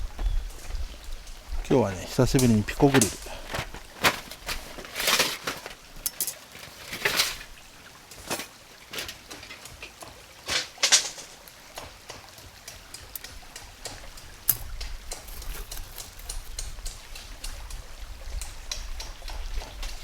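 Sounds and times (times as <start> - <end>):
camping gear clicking and rustling: 0.1 - 17.8.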